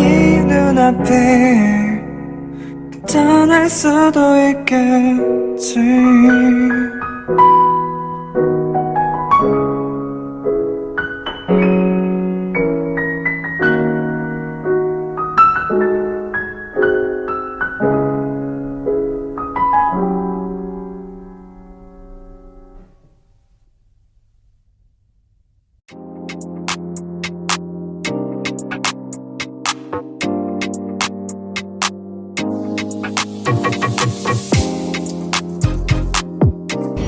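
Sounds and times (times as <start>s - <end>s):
slow piano notes and chords: 0.0s - 23.4s, 25.9s - 37.0s.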